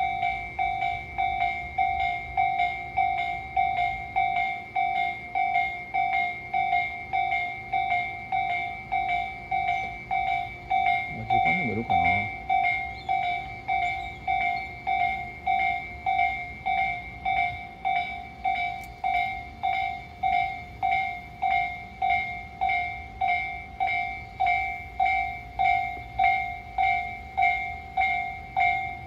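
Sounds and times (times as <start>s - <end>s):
level crossing warning bell: 0.0s - 29.0s.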